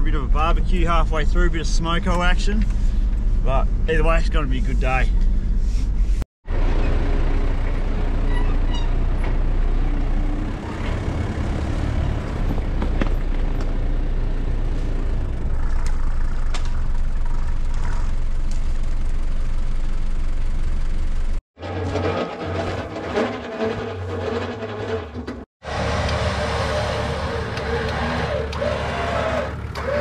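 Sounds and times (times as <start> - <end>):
vehicle engine rumble: 0.0 - 30.0.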